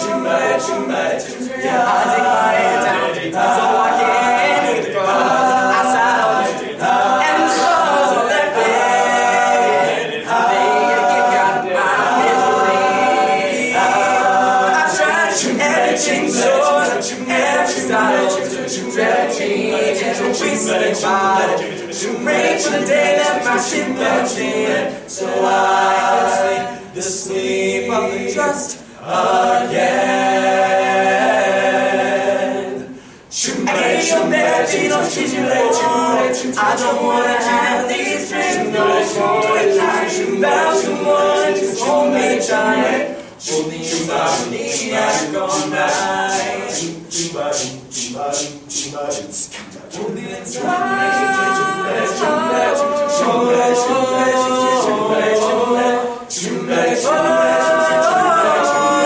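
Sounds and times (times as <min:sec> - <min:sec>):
male a cappella group singing: 0:00.0 - 0:59.0.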